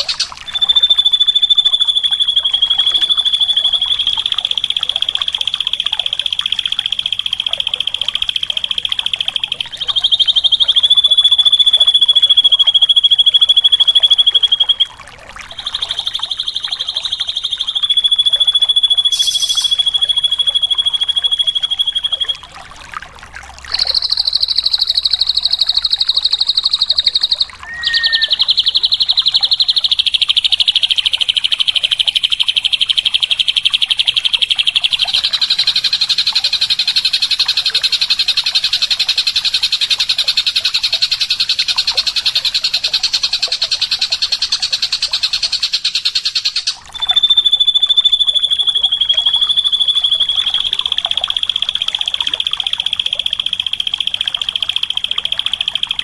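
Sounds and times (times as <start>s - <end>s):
bird buzzing trill: 0.0s - 22.5s, 23.7s - 56.0s.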